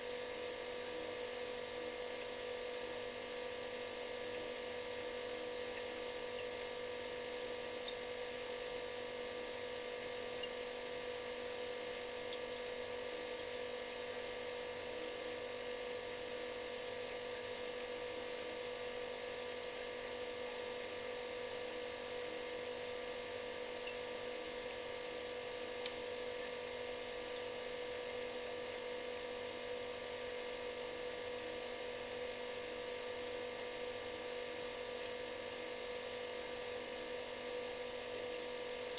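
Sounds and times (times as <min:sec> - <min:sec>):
refrigerator humming: 0:00.0 - 0:38.9.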